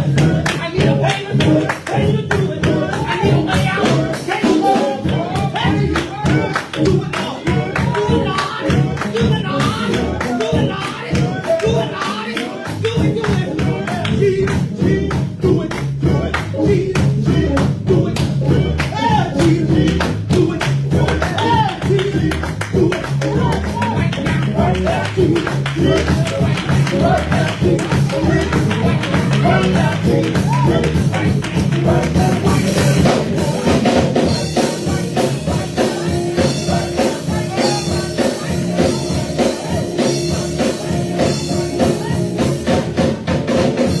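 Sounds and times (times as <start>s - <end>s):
bass line: 0.0s - 12.0s, 12.6s - 44.0s
drums and tambourine beat: 0.0s - 44.0s
vocal group singing gospel: 0.0s - 44.0s.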